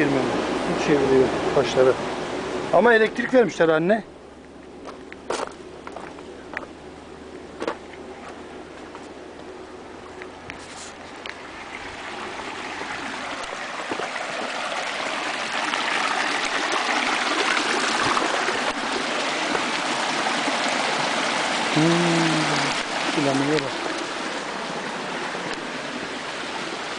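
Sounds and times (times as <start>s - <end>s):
water rushing and splashing: 0.0s - 26.9s.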